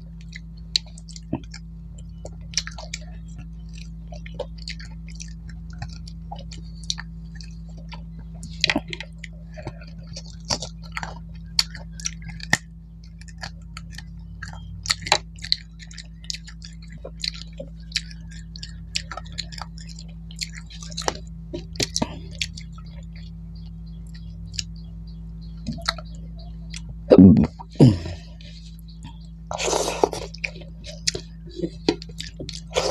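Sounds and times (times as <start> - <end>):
low steady hum: 0.0 - 32.9
wet chewing smacks: 0.2 - 23.3, 25.6 - 32.9.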